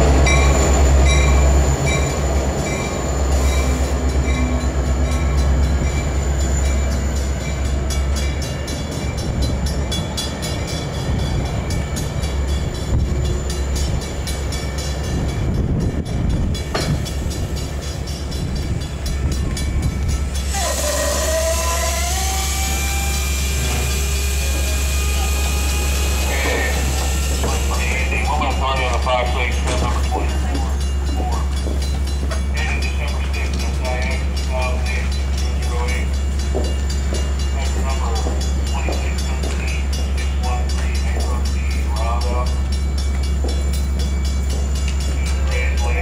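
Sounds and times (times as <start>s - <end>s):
train coaches rumbling past: 0.0s - 46.0s.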